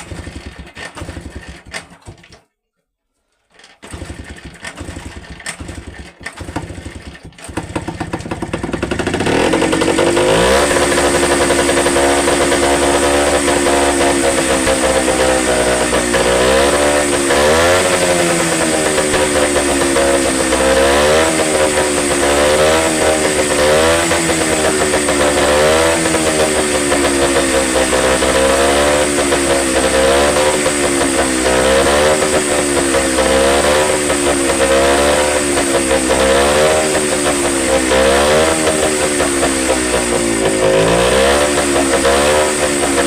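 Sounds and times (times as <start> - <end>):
motorcycle engine revving: 0.0 - 2.4, 3.8 - 43.0.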